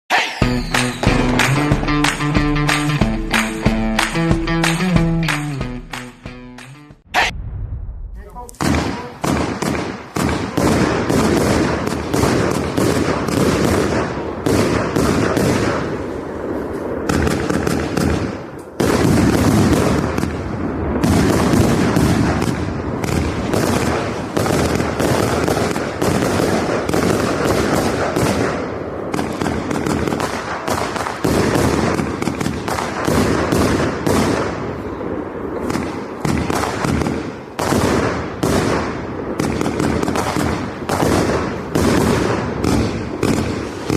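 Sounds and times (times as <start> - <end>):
fireworks shots and bangs: 0.1 - 6.0, 7.0 - 43.9.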